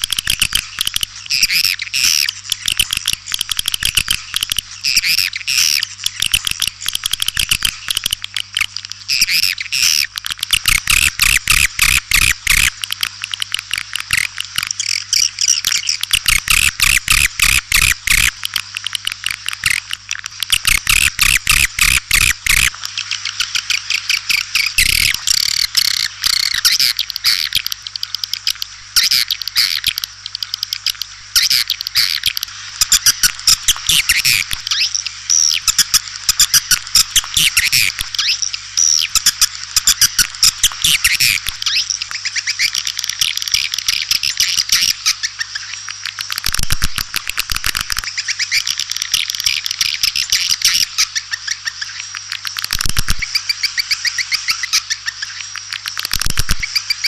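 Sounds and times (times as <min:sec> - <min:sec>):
swiftlets chirping and twittering: 0:00.0 - 0:57.0.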